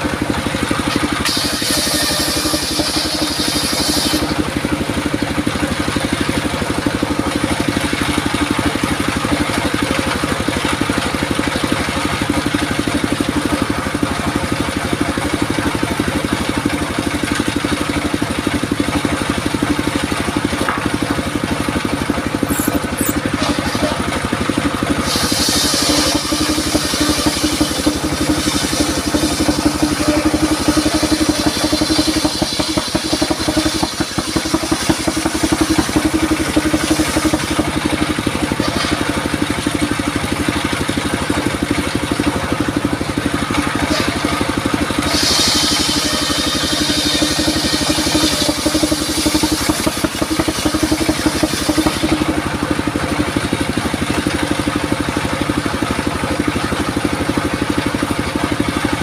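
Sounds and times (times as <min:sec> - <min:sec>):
circular saw engine running: 0:00.0 - 0:59.0.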